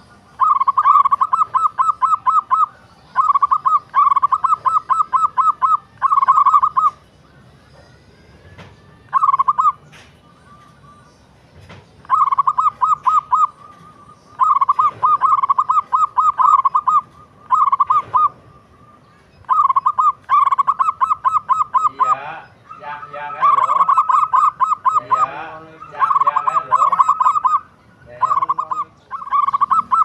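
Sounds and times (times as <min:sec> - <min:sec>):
dove cooing: 0:00.0 - 0:07.0, 0:09.0 - 0:10.6, 0:12.0 - 0:30.0
lower bird call: 0:00.0 - 0:30.0.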